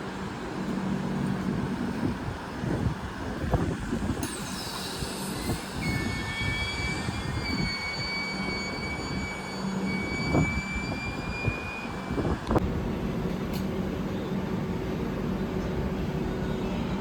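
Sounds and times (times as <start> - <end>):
high-pitched train whine: 0.0 - 17.0
train rumbling: 0.0 - 17.0.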